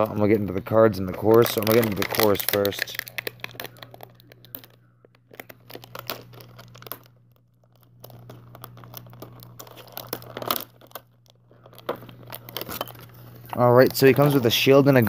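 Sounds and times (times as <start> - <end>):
faint low hum: 0.0 - 15.0
packaging crinkling and tearing: 1.0 - 15.0.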